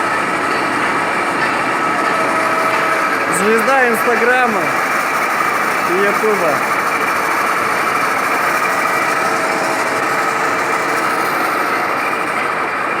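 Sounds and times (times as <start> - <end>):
milling machine high whine: 0.0 - 13.0.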